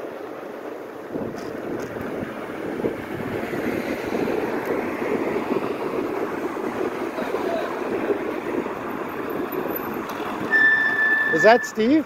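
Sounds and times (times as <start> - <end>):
tyre and road noise: 0.0 - 12.0
wind against microphone: 0.8 - 11.7.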